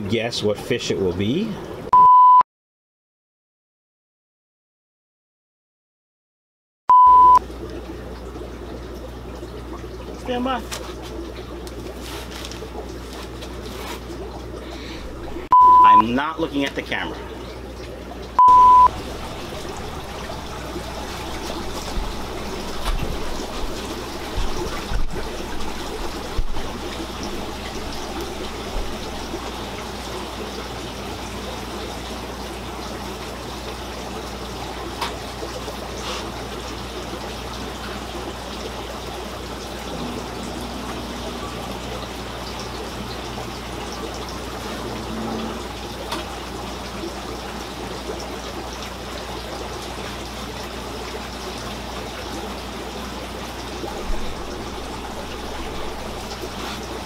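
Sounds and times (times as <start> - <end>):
water trickling from aquarium filters: 0.0 - 1.9, 7.0 - 57.0.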